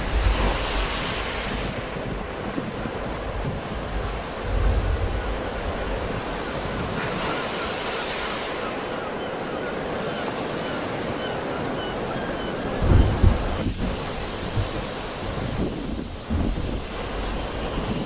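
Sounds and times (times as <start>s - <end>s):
wind buffeting microphone: 0.0s - 9.1s, 11.7s - 18.0s
sea waves breaking: 0.0s - 18.0s.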